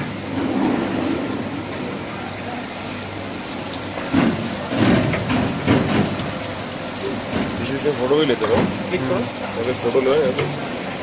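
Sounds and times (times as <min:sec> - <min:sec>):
hissing factory machine noise: 0:00.0 - 0:11.0.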